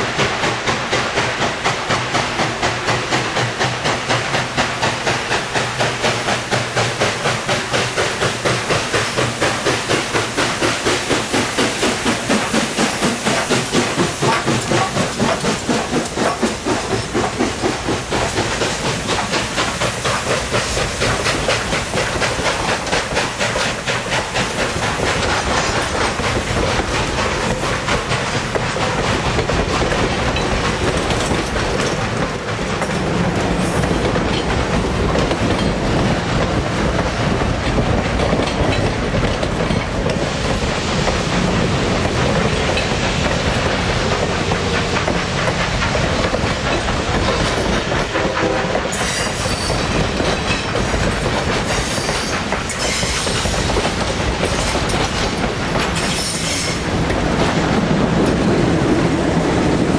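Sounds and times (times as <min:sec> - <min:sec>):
steam train rumbling past: 0:00.0 - 0:59.9
wheels clattering over rail joints: 0:00.1 - 0:59.9.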